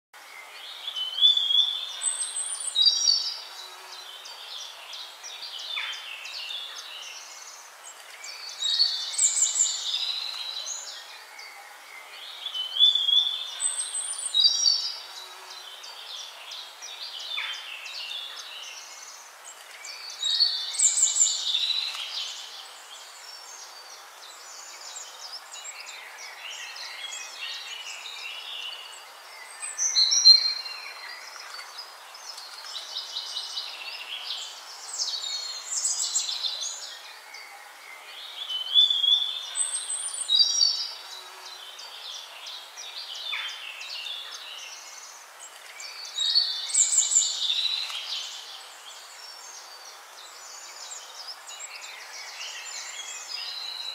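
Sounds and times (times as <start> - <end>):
birds chirping and singing: 0.3 - 53.9.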